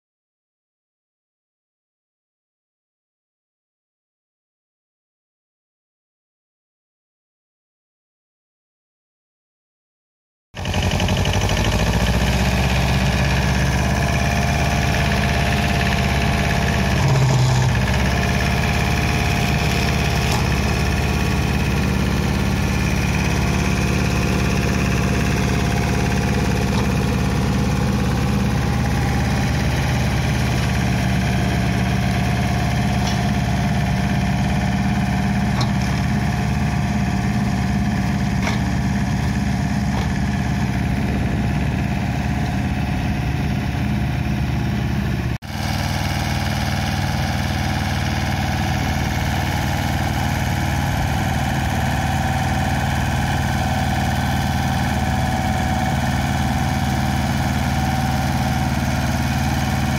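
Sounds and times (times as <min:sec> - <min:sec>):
flail mower cutting grass: 0:10.6 - 0:59.9
tractor engine running under load: 0:10.6 - 0:59.9.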